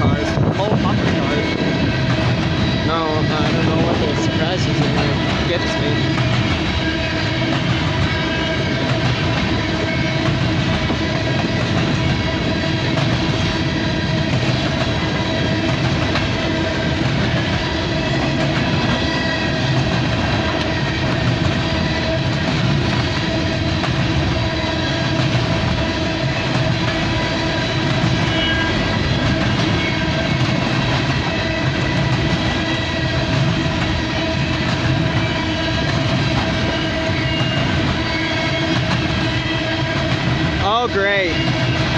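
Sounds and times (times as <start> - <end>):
train cars rumbling on rails: 0.0 - 41.9.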